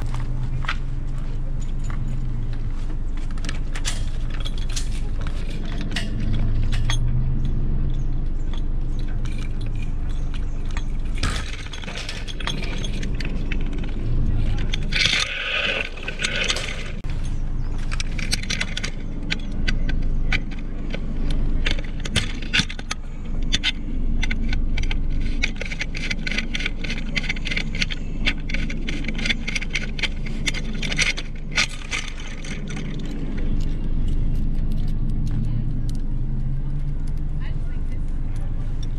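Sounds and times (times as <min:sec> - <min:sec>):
metal hardware clinking: 0:00.0 - 0:38.9
steady low rumble: 0:00.0 - 0:38.9.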